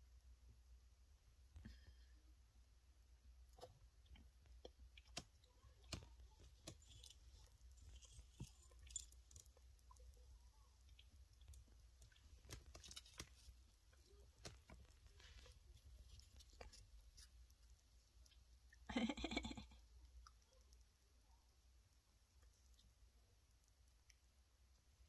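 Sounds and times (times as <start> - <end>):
hamster nibbling food: 1.4 - 25.0.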